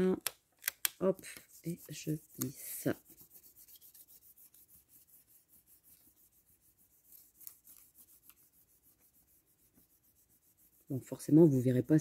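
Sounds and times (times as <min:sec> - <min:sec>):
fingers rubbing foil tape: 0:01.2 - 0:10.9.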